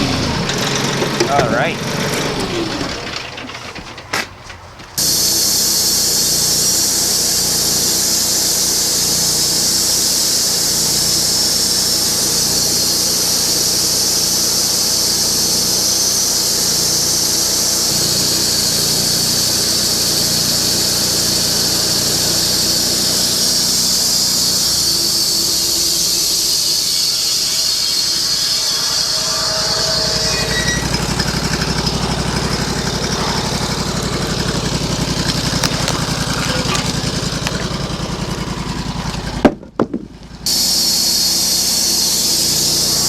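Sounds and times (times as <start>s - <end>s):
engine humming: 0.0s - 43.0s
bandsaw blade cutting log: 5.0s - 43.0s.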